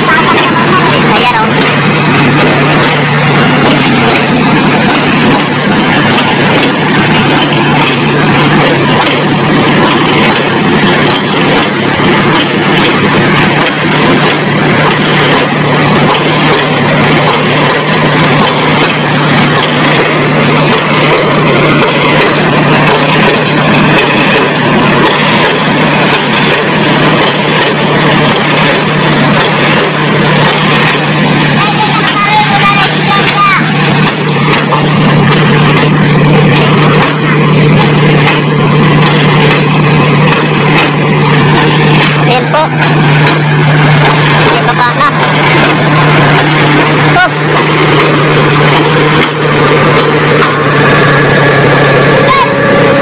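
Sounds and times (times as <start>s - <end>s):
road roller engine humming: 0.0s - 53.0s.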